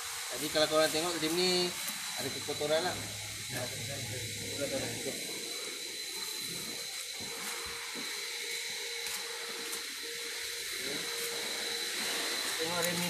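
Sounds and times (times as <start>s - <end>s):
machinery high whine: 0.0s - 13.0s
steady hiss: 0.0s - 13.0s.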